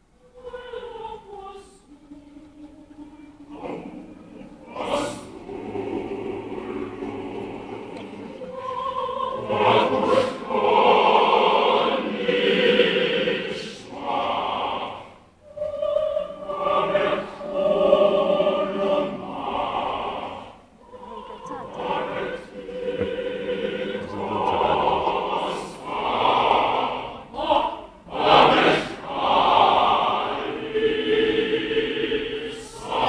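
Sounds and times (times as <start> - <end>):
mixed choir singing harmonies: 0.0 - 33.0.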